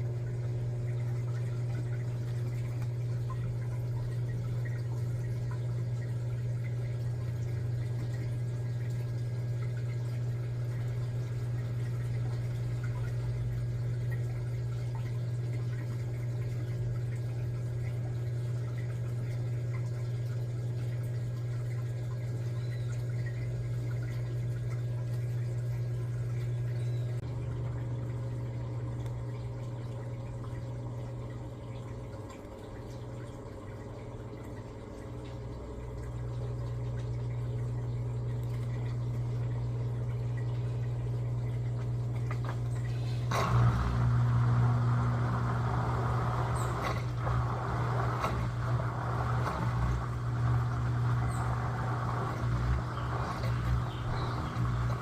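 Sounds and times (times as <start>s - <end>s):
washing machine humming: 0.0s - 55.0s
water sloshing and churning: 0.0s - 55.0s.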